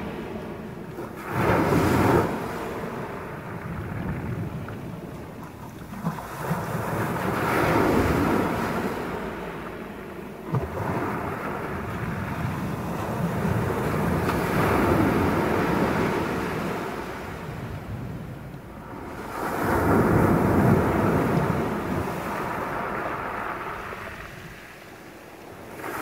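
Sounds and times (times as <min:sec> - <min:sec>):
waves washing up pebble beach: 0:00.0 - 0:18.2, 0:18.8 - 0:26.0
wind rumble on microphone: 0:00.0 - 0:26.0.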